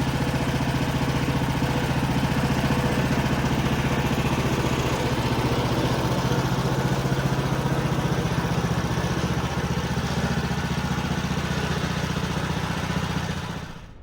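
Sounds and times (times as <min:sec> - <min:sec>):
sawmill gasoline engine running: 0:00.0 - 0:14.0.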